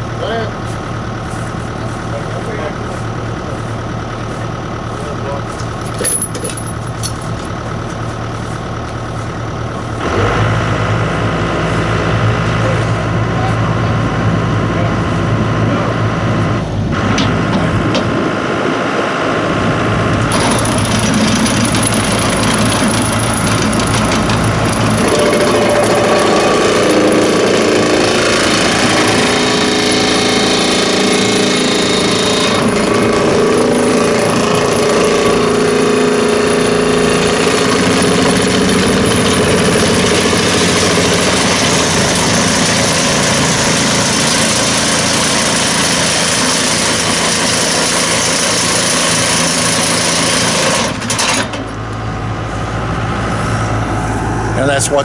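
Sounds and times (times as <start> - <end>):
excavator diesel engine revving: 0.0 - 55.0
vibratory pile hammer hum: 0.0 - 55.0.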